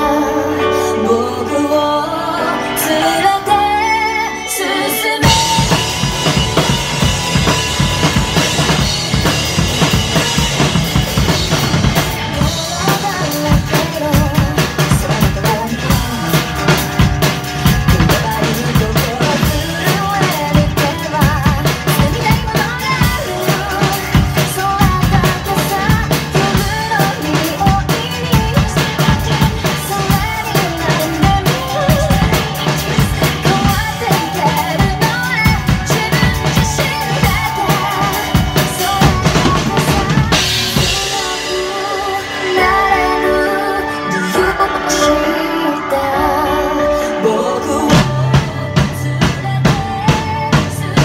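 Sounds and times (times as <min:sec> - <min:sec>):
rock band playing: 0:00.0 - 0:51.0
woman singing: 0:00.0 - 0:51.0
drum kit beat: 0:05.2 - 0:51.0.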